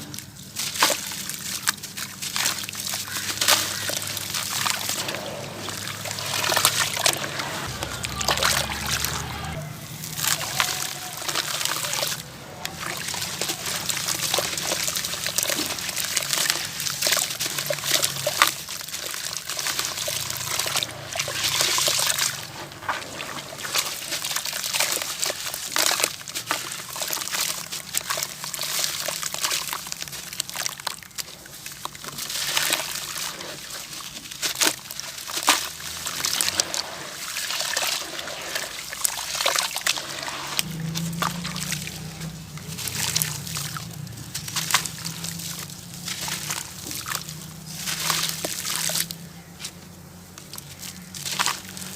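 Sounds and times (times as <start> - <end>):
crunchy pieces crumbling in water: 0.0 - 51.9
water trickling and sloshing: 0.0 - 51.9.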